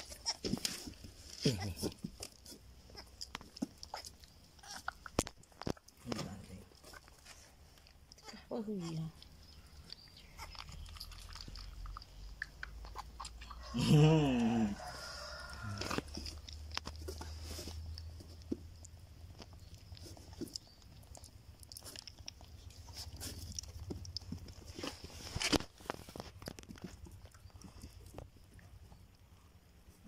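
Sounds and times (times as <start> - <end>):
goat kid sucking a finger: 0.0 - 8.5, 9.1 - 13.8, 14.8 - 29.1.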